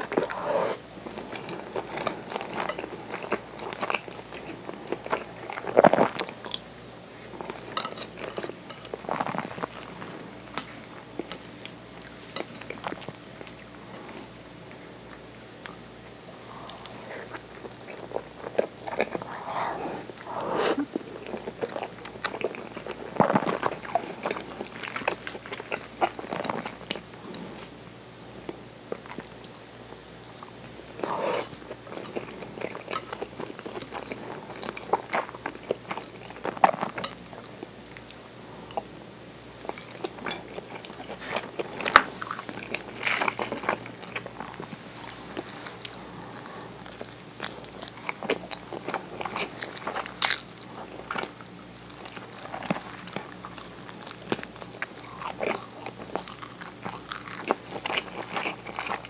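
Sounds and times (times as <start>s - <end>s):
wet chewing and crunching: 0.0s - 29.6s, 30.2s - 59.0s.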